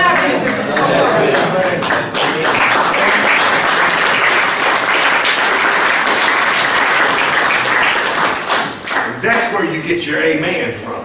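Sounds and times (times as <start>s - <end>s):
congregation applauding and cheering: 0.0s - 9.6s.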